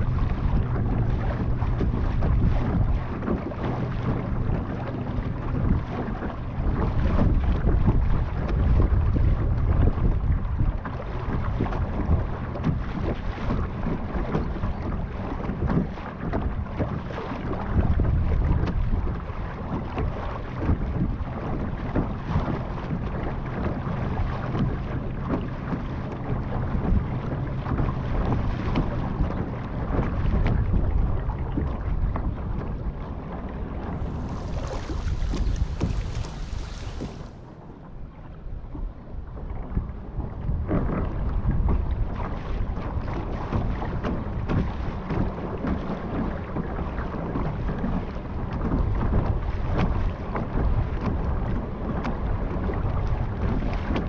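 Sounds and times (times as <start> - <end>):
water rushing along a hull: 0.0 - 54.0
wind buffeting microphone: 0.0 - 54.0.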